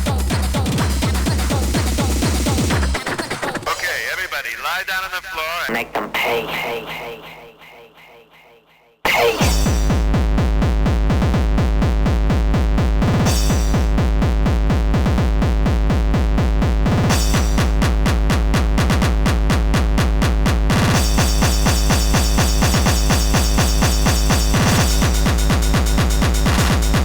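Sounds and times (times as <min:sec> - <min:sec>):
hardcore electronic music: 0:00.0 - 0:08.0, 0:09.1 - 0:11.9, 0:13.1 - 0:27.0.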